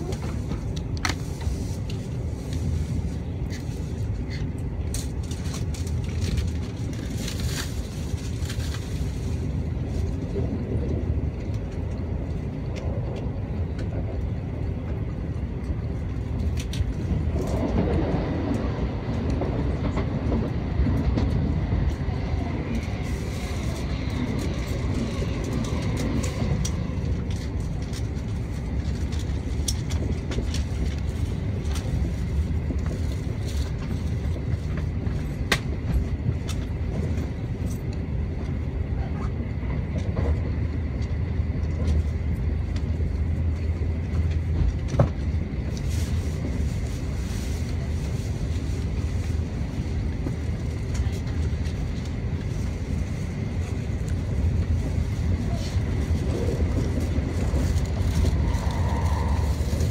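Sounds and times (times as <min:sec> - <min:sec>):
train cabin low rumble: 0:00.0 - 0:59.9.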